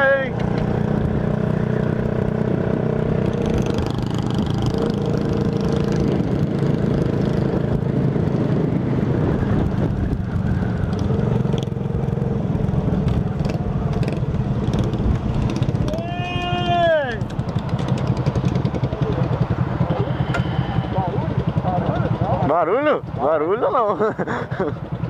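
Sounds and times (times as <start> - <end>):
moped engine rasping exhaust: 0.0 - 25.0.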